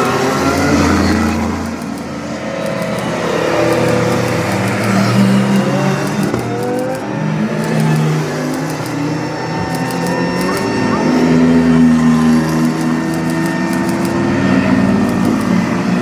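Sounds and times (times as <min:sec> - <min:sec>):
race car engines passing by: 0:00.0 - 0:16.0.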